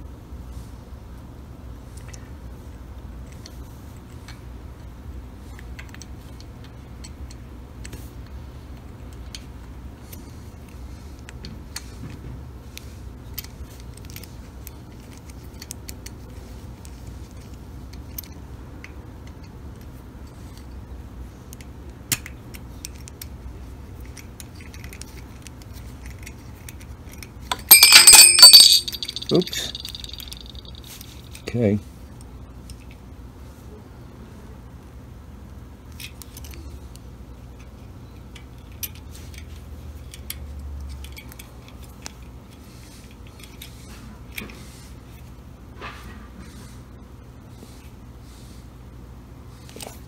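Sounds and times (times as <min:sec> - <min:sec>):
low steady hum: 0:00.0 - 0:45.8.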